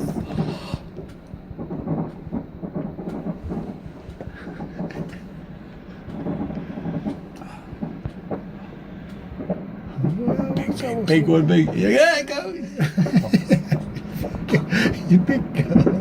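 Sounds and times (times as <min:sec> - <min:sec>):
distant fireworks bangs and pops: 0:00.0 - 0:16.0
low rolling rumble: 0:00.0 - 0:16.0.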